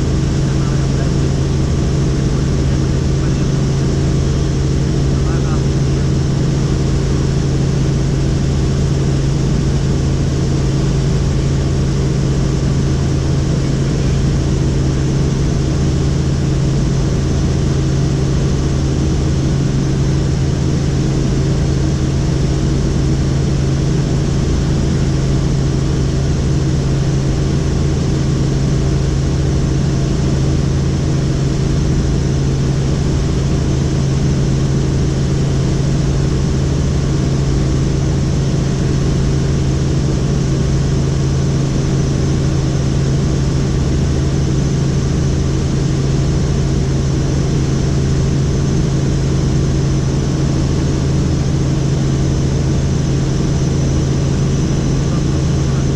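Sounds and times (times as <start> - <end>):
helicopter engine and rotors drone: 0.0 - 55.9.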